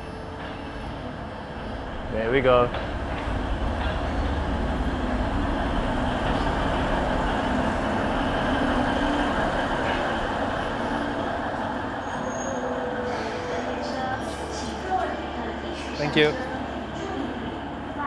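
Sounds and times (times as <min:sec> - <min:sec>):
train rumbling into station: 0:00.0 - 0:18.0.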